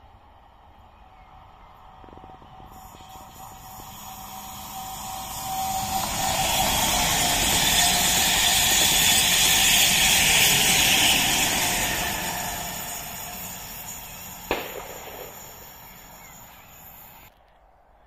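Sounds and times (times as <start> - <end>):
train wheels rushing on rail: 0.0 - 17.4
steady train whine: 0.0 - 17.6.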